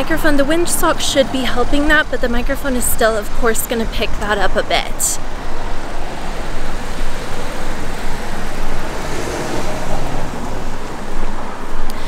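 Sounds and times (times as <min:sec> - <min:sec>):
cars going by: 0:00.0 - 0:12.0.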